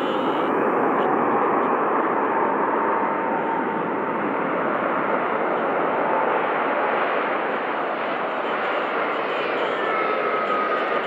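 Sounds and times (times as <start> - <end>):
faint engine whine: 0.0 - 11.0
jet engines rushing: 0.0 - 11.0.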